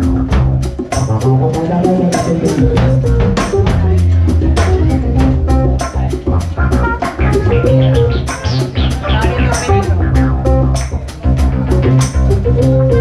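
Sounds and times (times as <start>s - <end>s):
drum kit and hand drums: 0.0s - 13.0s
low bass line: 0.0s - 13.0s.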